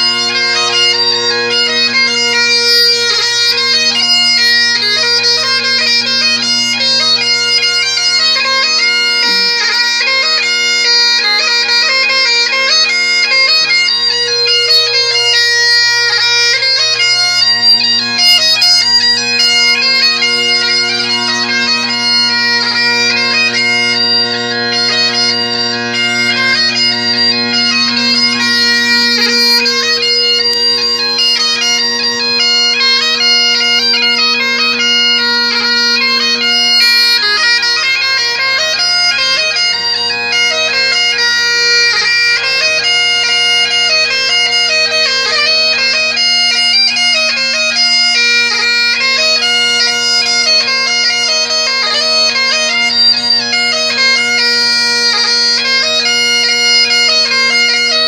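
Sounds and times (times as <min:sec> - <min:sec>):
bagpipe chanter melody: 0:00.0 - 0:58.0
bagpipe drones humming: 0:00.0 - 0:58.0.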